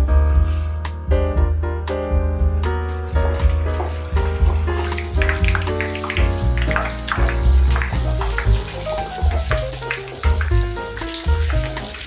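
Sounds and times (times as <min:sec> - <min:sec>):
deep bass: 0:00.0 - 0:11.9
instrumental music chords: 0:00.0 - 0:12.0.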